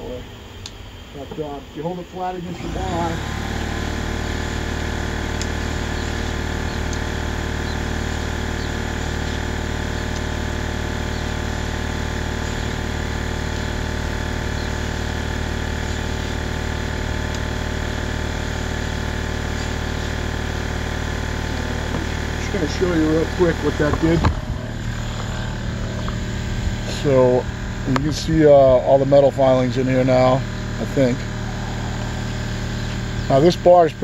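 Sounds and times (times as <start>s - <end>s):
motor droning: 0.0s - 34.0s.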